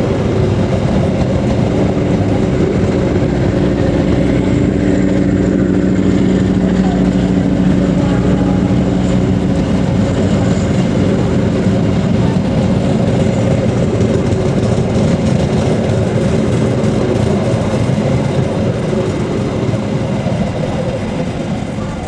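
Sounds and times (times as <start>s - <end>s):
low drone: 0.0s - 22.0s
train wheels rolling on track: 0.0s - 22.0s.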